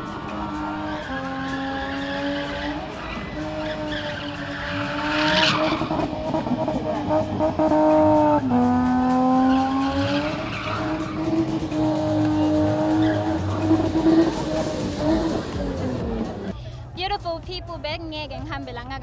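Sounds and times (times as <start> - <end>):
car engine revving: 0.0 - 16.5
tyres squealing: 0.0 - 16.5.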